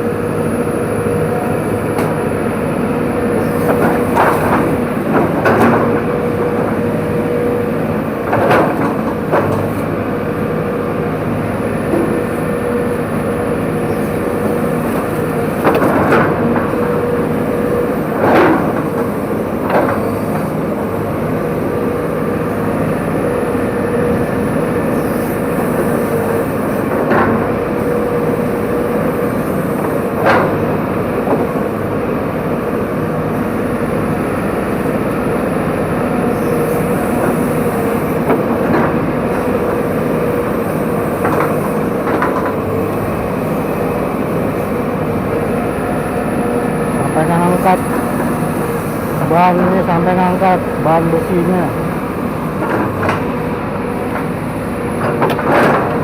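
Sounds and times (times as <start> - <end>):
excavator diesel engine running: 0.0 - 56.0
hydraulic whine: 0.0 - 56.0.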